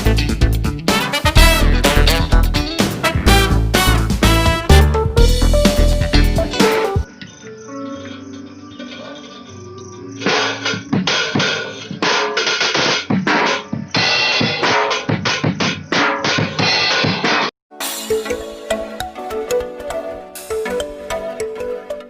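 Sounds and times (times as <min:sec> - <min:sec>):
drum kit playing: 0:00.0 - 0:07.1, 0:11.0 - 0:21.6
music: 0:00.0 - 0:22.0.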